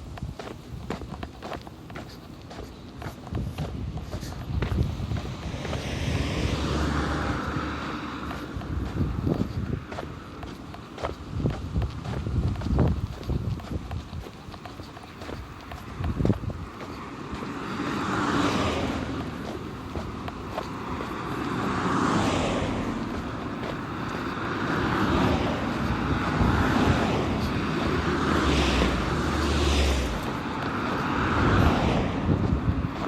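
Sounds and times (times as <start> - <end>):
cars passing: 0.0 - 33.0
low engine hum: 0.0 - 33.0.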